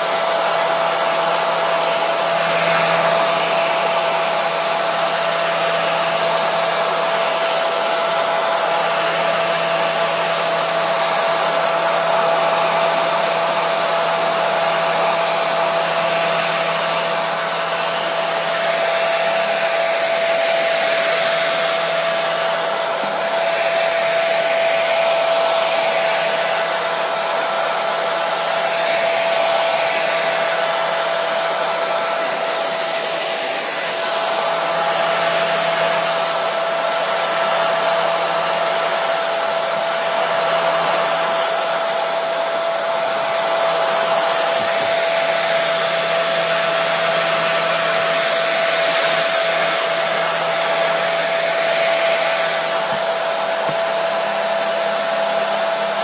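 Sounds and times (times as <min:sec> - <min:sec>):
hair dryer blowing air: 0:00.0 - 0:56.0
hair dryer motor whine: 0:00.0 - 0:56.0.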